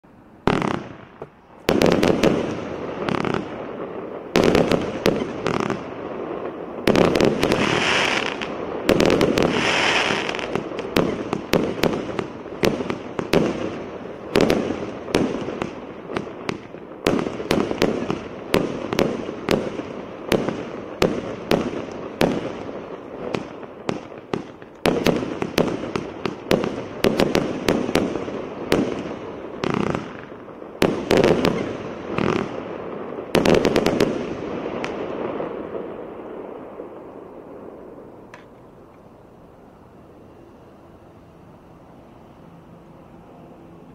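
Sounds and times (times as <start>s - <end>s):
fireworks shots and bursts: 0.4s - 38.1s.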